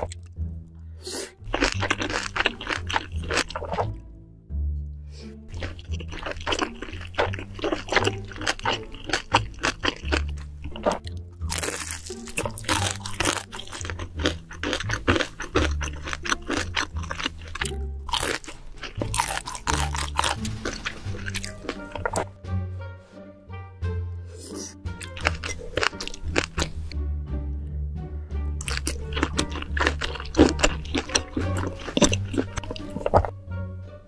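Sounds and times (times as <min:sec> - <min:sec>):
crunching and chewing crisp food: 0:00.0 - 0:00.4, 0:01.1 - 0:04.0, 0:05.5 - 0:22.4, 0:24.4 - 0:27.0, 0:28.6 - 0:33.4
background music with bass line: 0:00.0 - 0:34.0.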